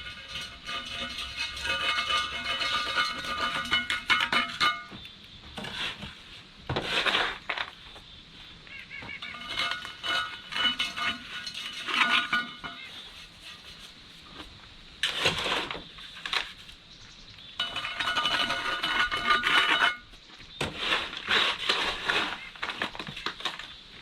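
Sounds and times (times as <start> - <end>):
metal scraping against metal: 0.0 - 8.0, 8.9 - 23.8.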